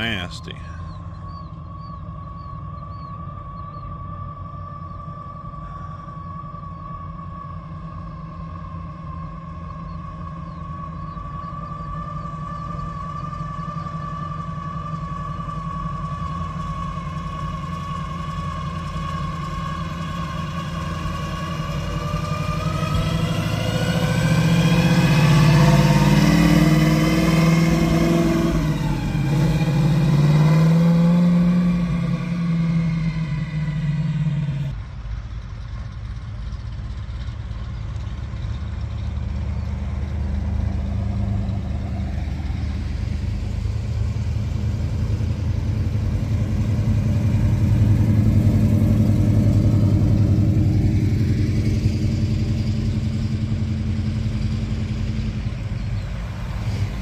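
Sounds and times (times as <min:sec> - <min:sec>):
car engine passing with whine: 0:00.0 - 0:57.0
low car engine rumble: 0:00.0 - 0:57.0.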